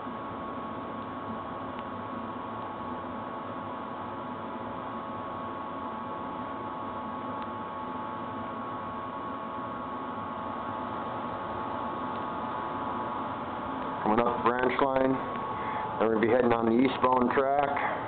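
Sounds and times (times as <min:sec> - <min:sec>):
model train electrical hum: 0:00.0 - 0:18.0.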